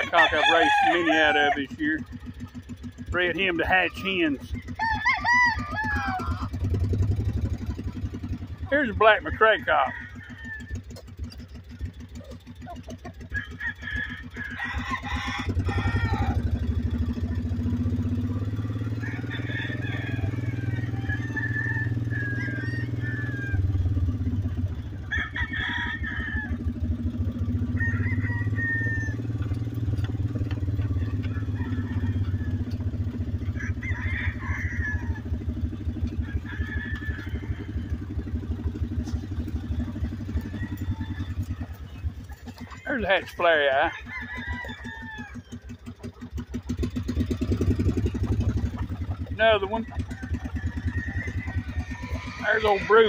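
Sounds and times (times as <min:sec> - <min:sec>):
roosters crowing: 0:00.0 - 0:53.0
small engine running: 0:00.0 - 0:53.0.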